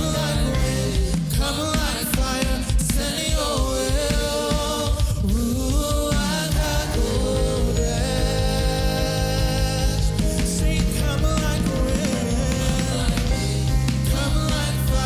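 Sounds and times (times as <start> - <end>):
band playing steady beat: 0.0 - 15.0
person singing: 0.0 - 15.0.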